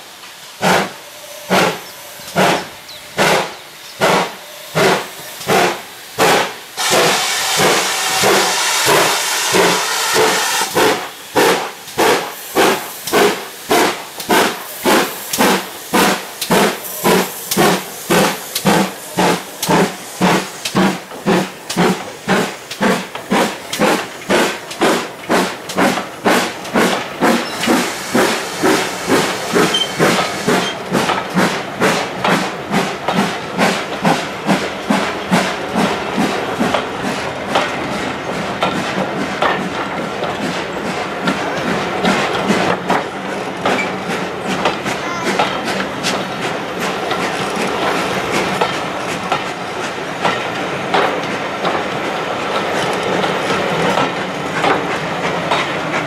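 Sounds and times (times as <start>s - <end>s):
steam hissing: 0.0s - 56.0s
steam locomotive chuffing: 0.0s - 56.0s.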